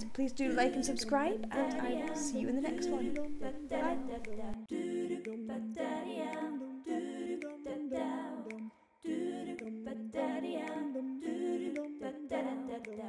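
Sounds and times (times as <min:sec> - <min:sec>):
person singing a cappella: 0:00.0 - 0:13.0.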